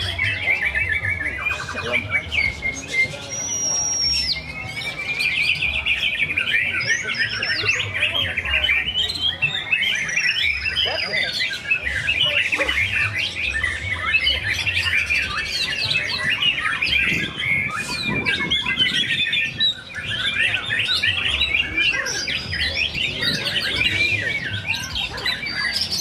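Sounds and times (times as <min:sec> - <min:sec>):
birds singing whistles and trills: 0:00.0 - 0:26.0.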